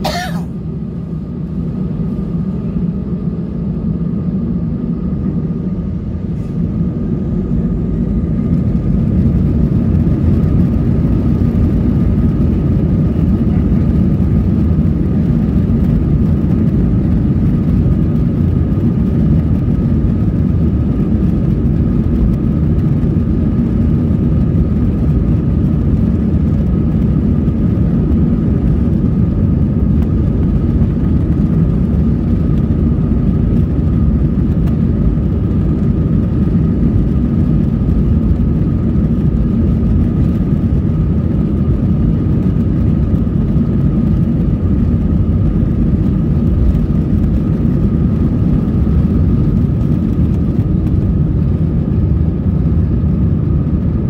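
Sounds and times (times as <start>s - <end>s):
faint engine whine: 0.0s - 54.0s
jet engine low rumble: 0.0s - 54.0s.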